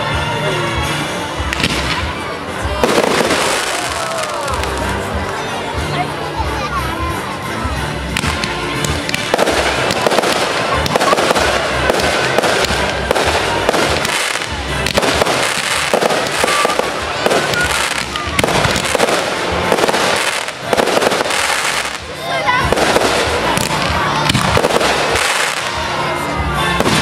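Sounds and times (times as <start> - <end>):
fireworks bangs and cracks: 1.4 - 5.4, 8.1 - 27.0.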